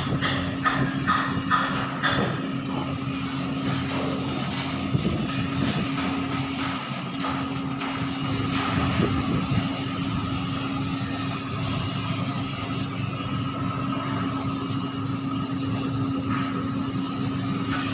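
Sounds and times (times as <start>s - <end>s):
diesel engines running under load: 0.0s - 17.9s.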